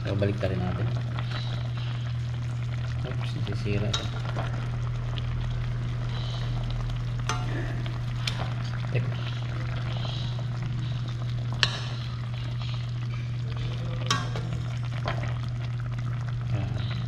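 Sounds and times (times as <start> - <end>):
fish sizzling in a pan: 0.0 - 17.0
steady low hum: 0.0 - 17.0.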